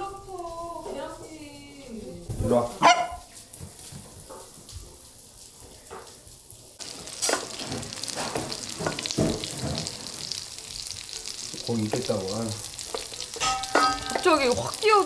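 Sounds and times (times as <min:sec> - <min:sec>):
pancakes sizzling in oil: 0:00.0 - 0:15.0.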